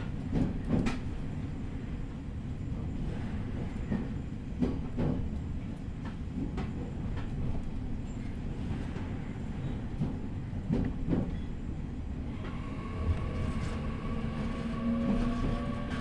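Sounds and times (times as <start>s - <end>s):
train interior low rumble: 0.0s - 16.0s.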